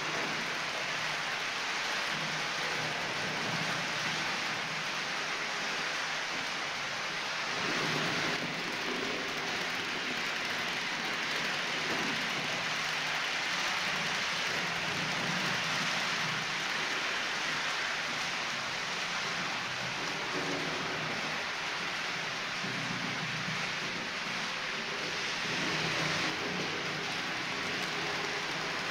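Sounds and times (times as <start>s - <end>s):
model train wheels on rails: 0.0s - 28.9s.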